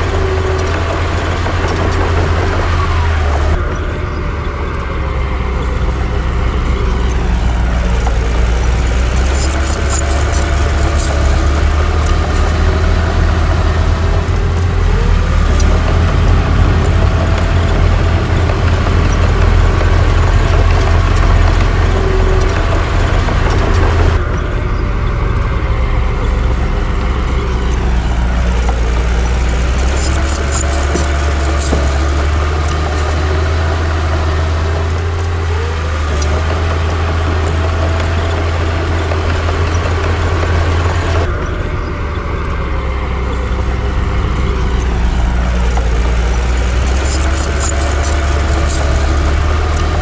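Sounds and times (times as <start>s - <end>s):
heavy machinery diesel rumble: 0.0s - 50.0s
sharp clicks: 4.7s - 41.4s, 43.2s - 50.0s.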